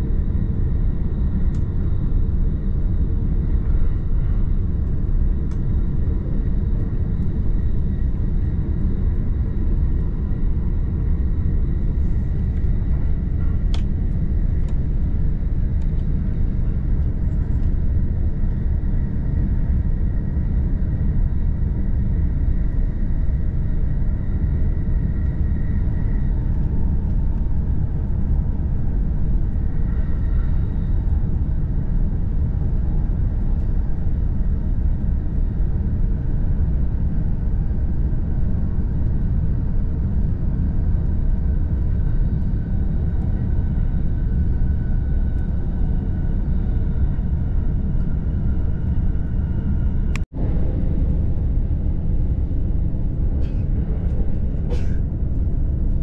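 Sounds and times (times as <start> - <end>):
train rumbling from inside: 0.0 - 56.0.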